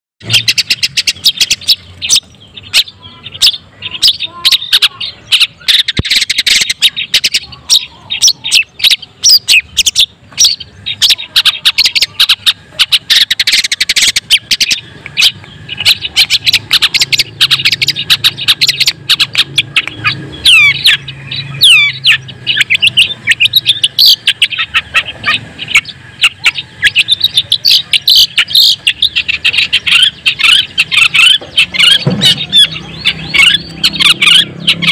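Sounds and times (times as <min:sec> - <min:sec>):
bird chattering song: 0:00.2 - 0:34.9
bird whistled notes: 0:00.2 - 0:34.9.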